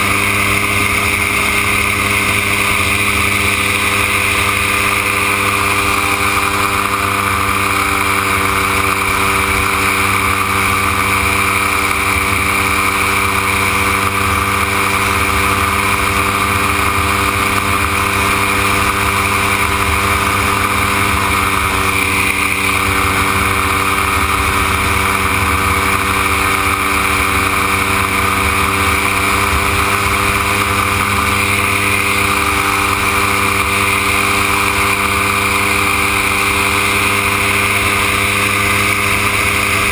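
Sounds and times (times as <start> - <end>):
gyroplane engine running: 0.0 - 39.9.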